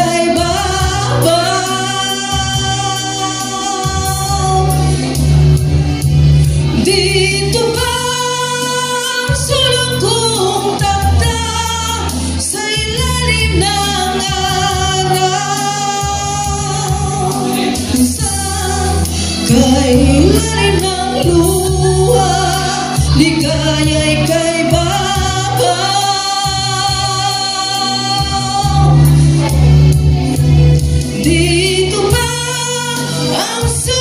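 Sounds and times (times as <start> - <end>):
karaoke backing track: 0.0 - 34.0
woman singing a ballad: 0.0 - 34.0.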